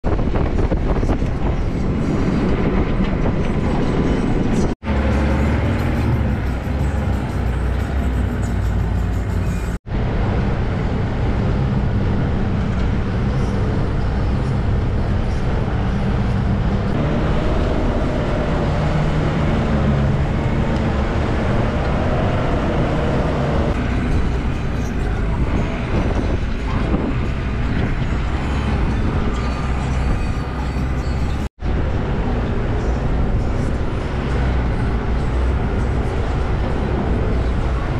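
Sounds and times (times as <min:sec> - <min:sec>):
engine and tyre rumble: 0:00.0 - 0:37.9.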